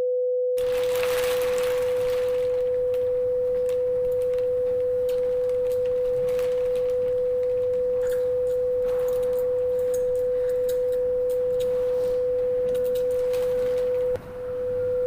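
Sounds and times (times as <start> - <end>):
faint clicks and rustles: 0.6 - 14.2.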